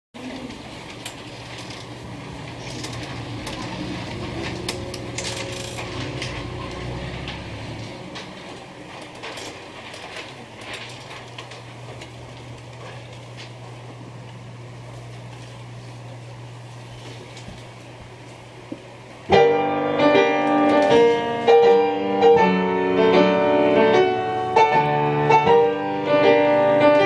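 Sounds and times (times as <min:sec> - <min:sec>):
sheet music rustling: 0:00.2 - 0:27.0
steady low hum: 0:00.2 - 0:27.0.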